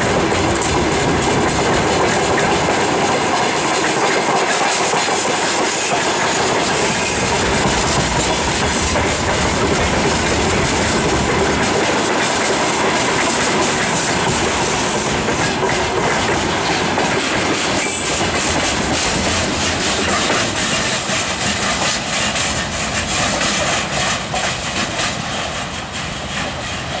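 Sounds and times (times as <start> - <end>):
freight train wheels clattering: 0.0 - 27.0.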